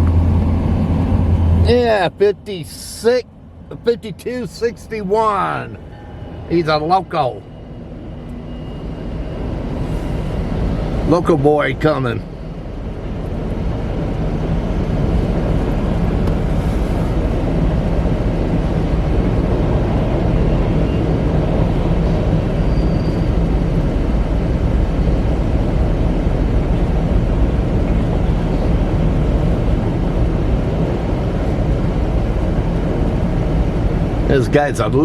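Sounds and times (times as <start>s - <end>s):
diesel locomotive engine rumble: 0.0s - 35.0s.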